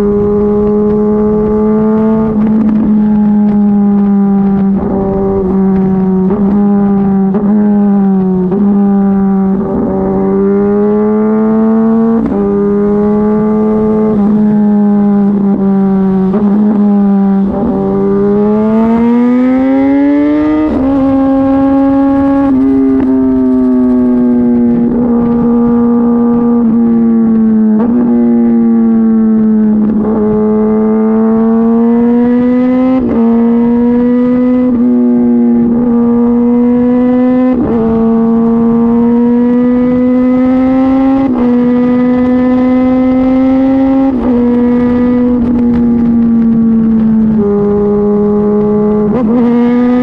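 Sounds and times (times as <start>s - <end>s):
motorcycle engine running loud: 0.0s - 50.0s.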